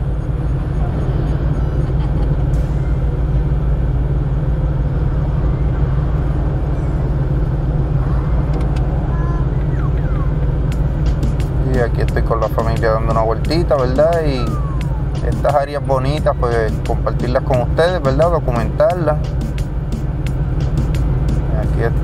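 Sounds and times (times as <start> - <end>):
motor vehicles rumbling: 0.0 - 22.0.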